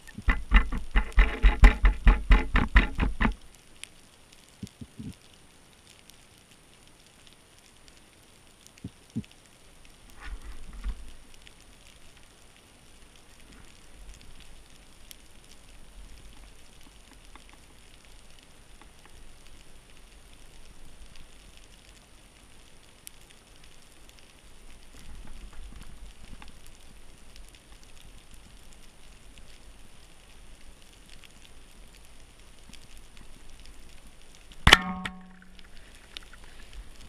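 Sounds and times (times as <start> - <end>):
rumble of moving water: 0.0 - 5.3, 7.3 - 37.0
fine underwater crackling and clicking: 0.0 - 37.0.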